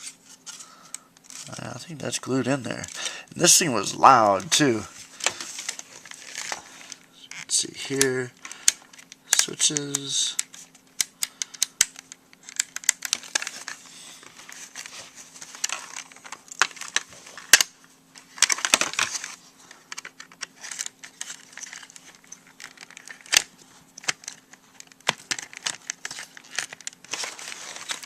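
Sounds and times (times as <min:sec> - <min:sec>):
faint steady hum: 0:00.0 - 0:28.0
plastic parts clicking and scraping: 0:04.2 - 0:28.0.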